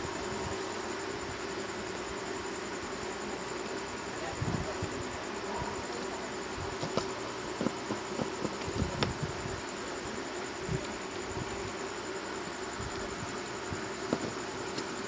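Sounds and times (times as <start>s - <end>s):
steady electrical buzz: 0.0s - 15.0s.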